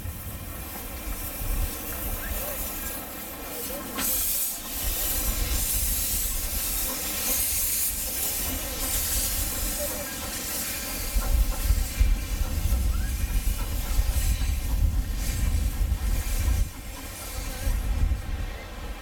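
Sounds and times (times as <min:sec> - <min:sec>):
steam hiss: 0:00.0 - 0:19.0.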